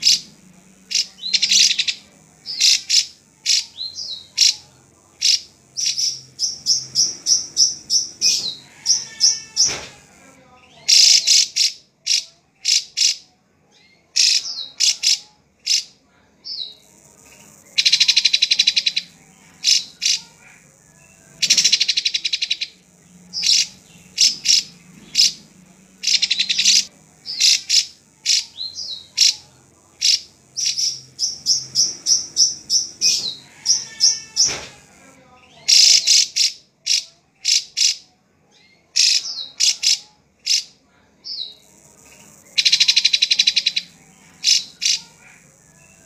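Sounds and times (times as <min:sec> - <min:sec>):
rasping rattling bird trills: 0:00.0 - 0:13.2, 0:14.2 - 0:15.9, 0:16.5 - 0:38.0, 0:39.0 - 0:46.0.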